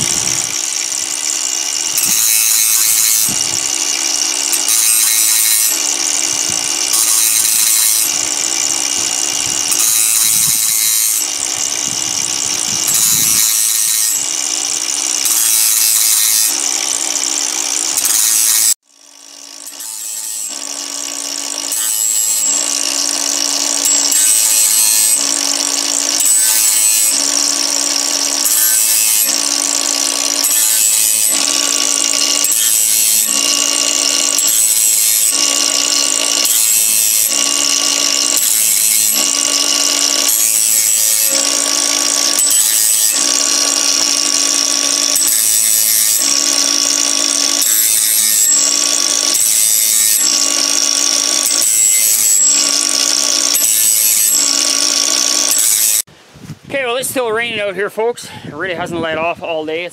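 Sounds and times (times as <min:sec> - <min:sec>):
angle grinder grinding saw teeth: 0:00.0 - 0:56.1.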